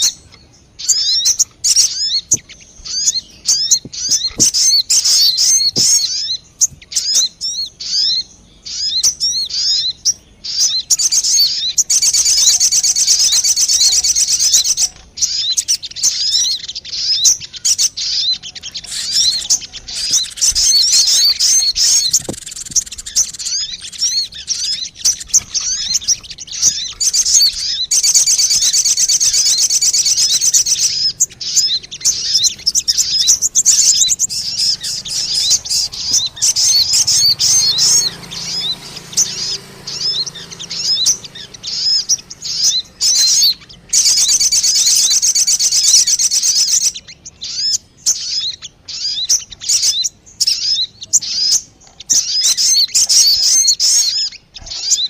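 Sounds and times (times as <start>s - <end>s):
fast buzzing bird trills: 0.0s - 55.0s
high bird chirps and twitters: 0.0s - 55.0s.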